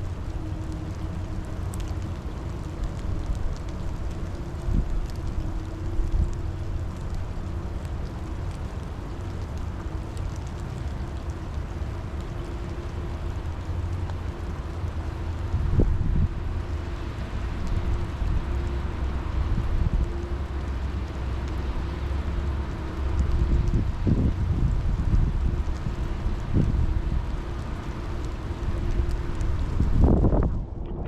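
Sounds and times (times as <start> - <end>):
steady rain falling: 0.0 - 30.9
faint steady hum: 0.0 - 31.0
heavy low rumble: 0.0 - 31.0.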